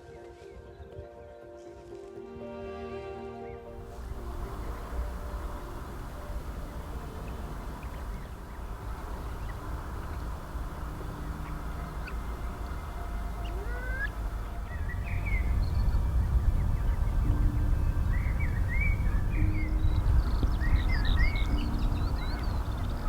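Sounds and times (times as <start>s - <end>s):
low rumble: 3.8s - 23.0s
marsh birds chirping and whistling: 3.8s - 23.0s.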